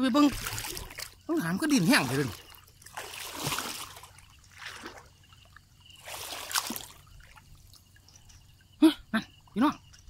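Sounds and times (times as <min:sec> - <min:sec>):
pond water splashing: 0:00.0 - 0:08.8.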